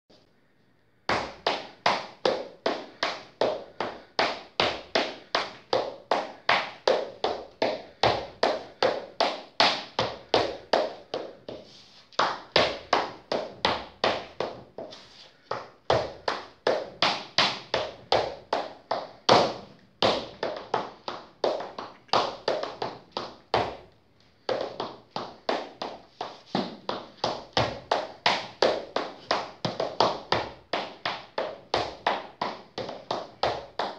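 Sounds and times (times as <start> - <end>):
dance shoes tapping on floor: 1.1 - 33.9.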